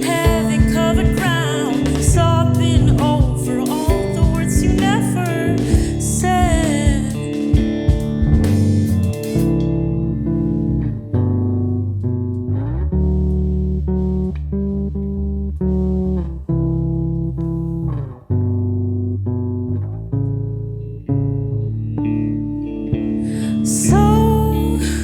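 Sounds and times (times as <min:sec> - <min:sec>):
bass guitar line: 0:00.0 - 0:25.0
plucked guitar notes: 0:00.0 - 0:25.0.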